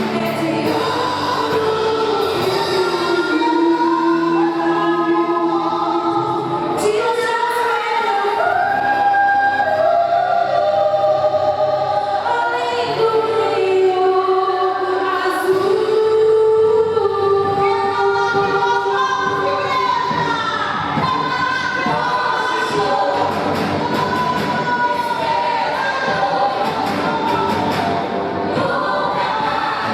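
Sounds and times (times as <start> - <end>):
group singing a hymn: 0.0 - 29.9.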